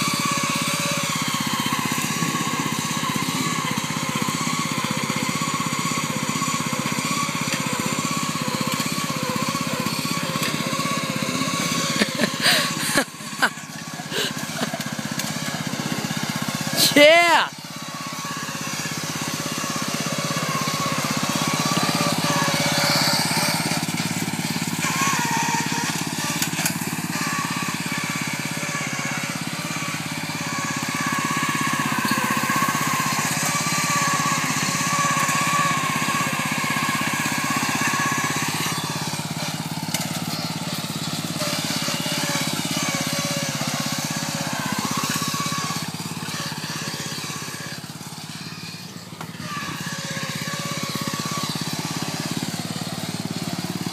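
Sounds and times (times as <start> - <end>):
riding lawn mower engine: 0.0 - 53.9.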